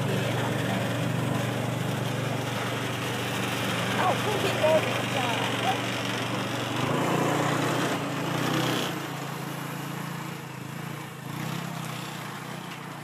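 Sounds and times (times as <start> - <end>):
small vehicle engine running: 0.0 - 13.0.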